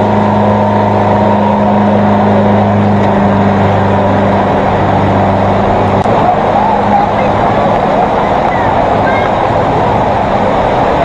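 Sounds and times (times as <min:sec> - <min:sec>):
rushing noise: 0:00.0 - 0:11.0
vehicle engine humming: 0:00.0 - 0:11.0.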